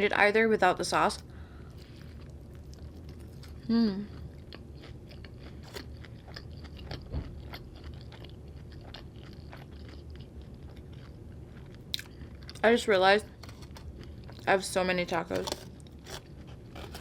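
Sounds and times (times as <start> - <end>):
faint low hum: 0.0 - 17.0
person chewing crunchy food: 1.6 - 12.7, 13.3 - 14.5, 15.3 - 17.0.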